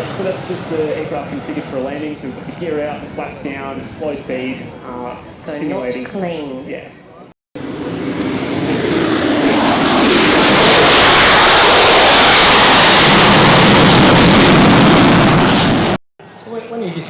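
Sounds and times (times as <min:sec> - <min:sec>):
jet engine roar: 0:00.0 - 0:06.0, 0:07.6 - 0:16.4.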